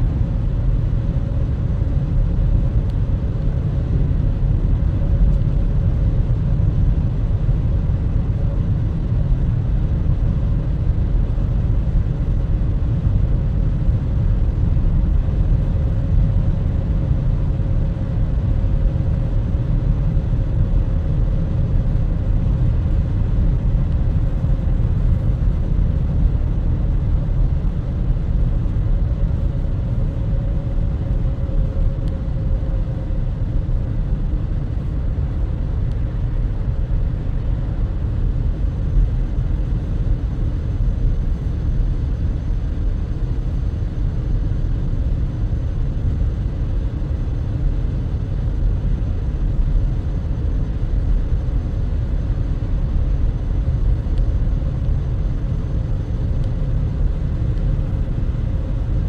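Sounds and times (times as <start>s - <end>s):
car interior road rumble: 0.0s - 59.0s
faint steady hum: 0.0s - 59.0s.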